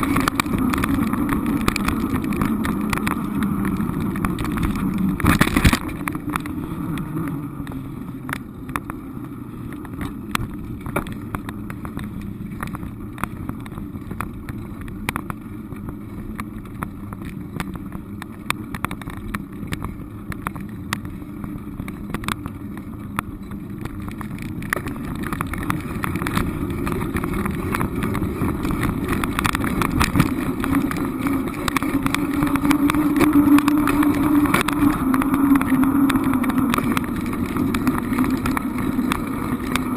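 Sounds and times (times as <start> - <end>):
small knocks and rattles: 0.0 - 39.9
vehicle engine hum and road noise: 0.0 - 39.9.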